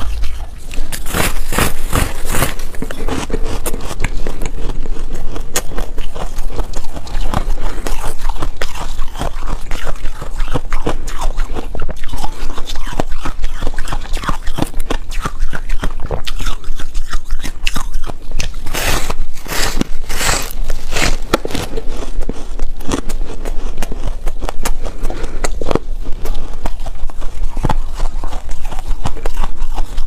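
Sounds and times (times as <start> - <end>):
ice crunching while chewed: 0.0 - 30.0.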